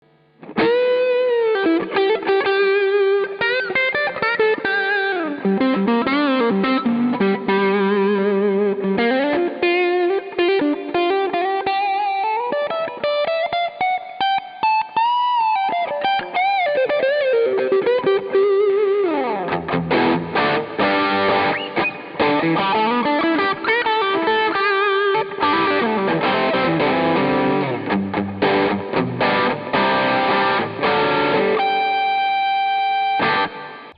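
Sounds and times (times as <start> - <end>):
overdriven electric guitar: 0.0 - 33.9.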